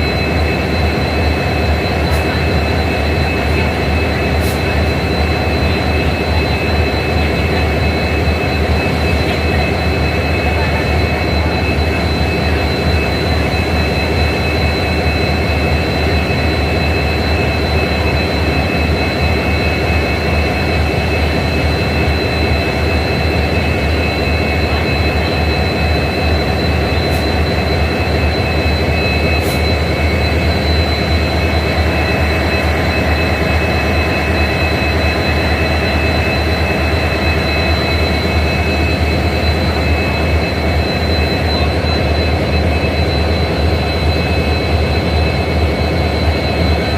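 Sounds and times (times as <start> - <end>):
diesel locomotives idling: 0.0 - 46.9
high-pitched whine: 0.0 - 46.9.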